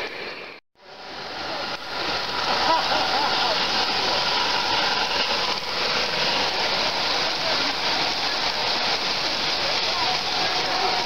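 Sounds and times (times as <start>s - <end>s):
model train running on track: 0.8s - 11.0s.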